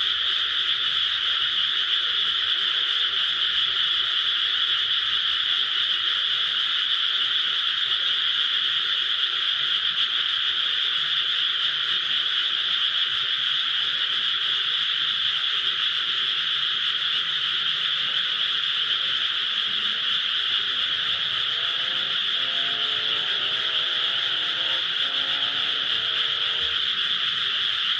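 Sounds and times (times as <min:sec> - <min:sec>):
chorus of frogs trilling: 0:00.0 - 0:27.9.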